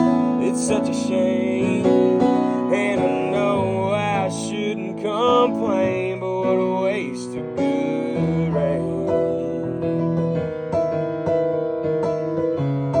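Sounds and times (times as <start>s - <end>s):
keyboard chords: 0.0s - 13.0s
sliding lead melody: 0.0s - 13.0s.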